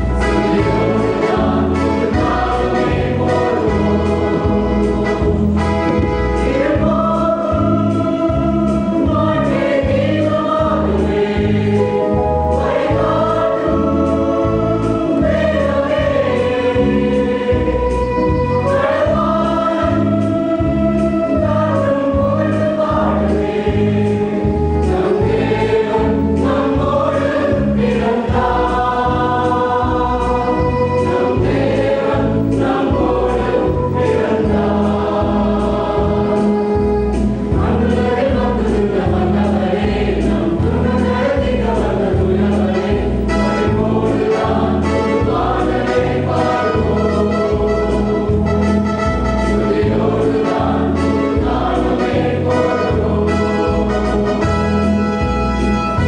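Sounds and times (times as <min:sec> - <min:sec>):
mixed choir singing: 0:00.0 - 0:55.0
low pulsing accompaniment: 0:00.0 - 0:56.0.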